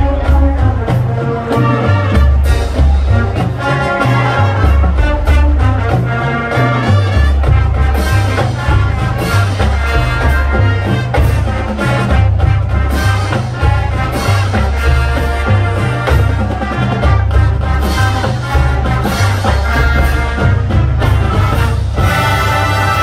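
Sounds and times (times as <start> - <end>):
marching band playing swing: 0.0 - 23.0.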